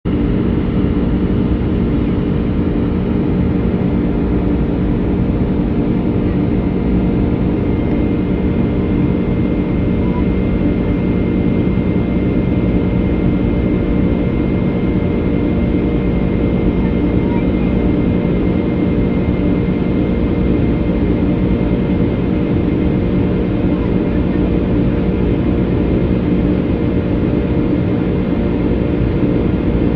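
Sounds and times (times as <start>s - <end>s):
jet engine drone in cabin: 0.1s - 29.9s.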